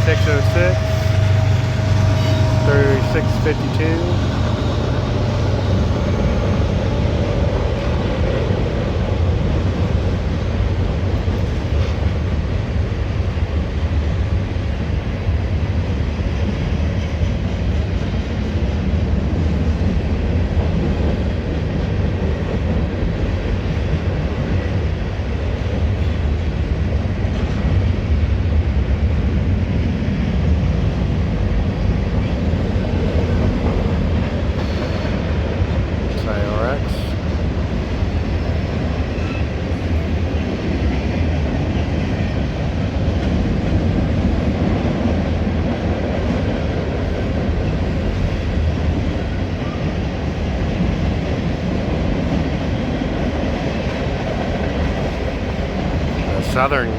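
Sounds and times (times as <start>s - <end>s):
freight train wheels on rails: 0.0s - 56.9s.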